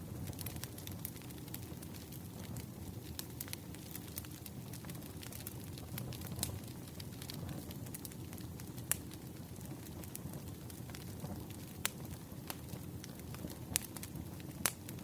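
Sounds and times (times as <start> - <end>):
firewood crackling: 0.0 - 15.0.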